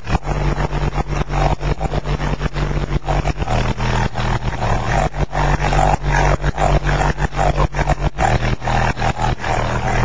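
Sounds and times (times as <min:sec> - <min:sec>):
distorted deep subwoofer bass: 0:00.0 - 0:10.0.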